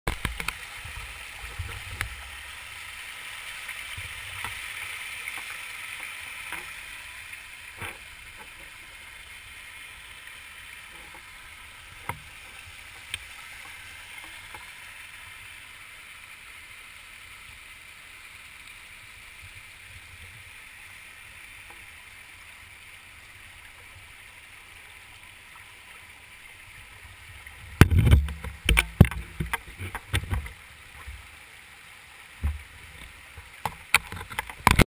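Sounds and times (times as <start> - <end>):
stream running over stones: 0.1 - 34.9.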